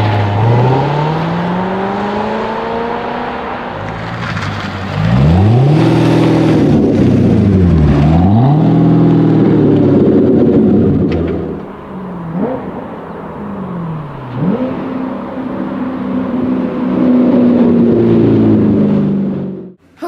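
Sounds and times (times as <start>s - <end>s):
car engine revving: 0.0s - 19.8s.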